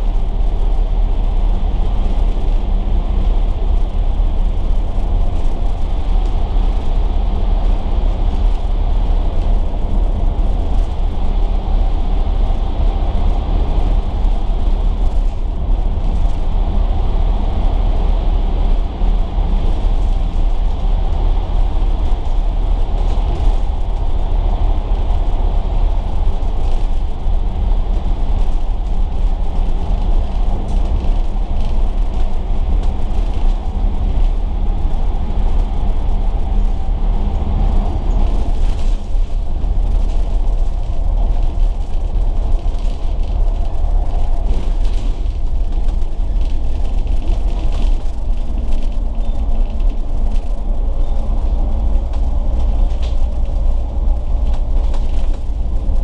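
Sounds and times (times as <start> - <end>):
bus diesel engine drone: 0.0 - 56.0
road rumble: 0.0 - 56.0.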